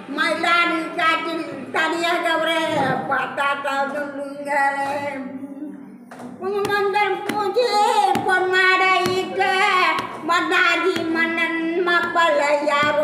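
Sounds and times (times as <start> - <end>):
elderly woman singing: 0.1 - 13.0.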